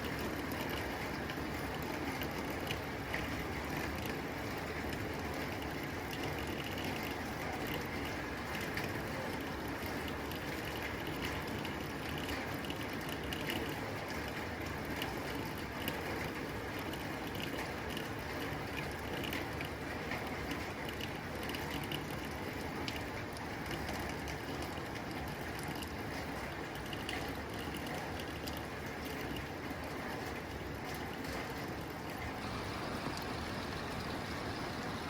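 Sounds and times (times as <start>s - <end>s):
rain on a tin roof: 0.0s - 35.0s.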